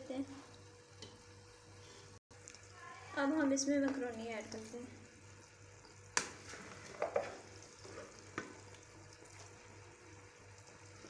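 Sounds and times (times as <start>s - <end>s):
vegetables sizzling: 0.0s - 11.0s.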